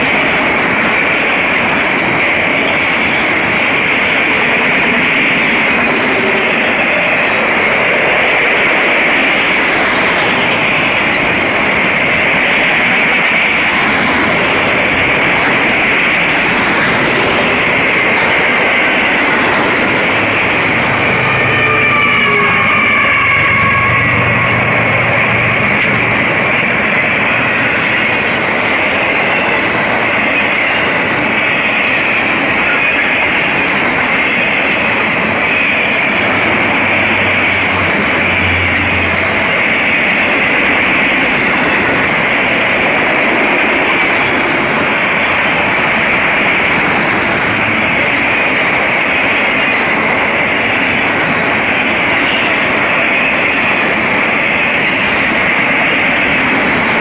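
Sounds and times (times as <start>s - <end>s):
train wheels rushing on rails: 0.0s - 57.0s.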